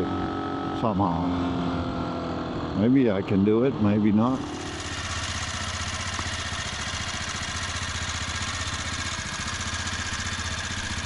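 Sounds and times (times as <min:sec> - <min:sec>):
single-cylinder engine running: 0:00.0 - 0:11.0.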